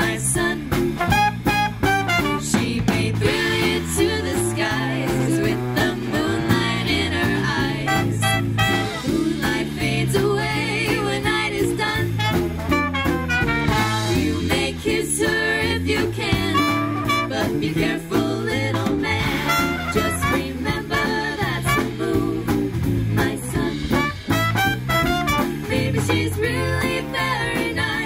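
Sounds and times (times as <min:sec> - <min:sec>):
female vocal harmony: 0:00.0 - 0:00.8, 0:02.4 - 0:12.3, 0:13.8 - 0:24.1, 0:25.7 - 0:28.0
swing band playing: 0:00.0 - 0:28.0.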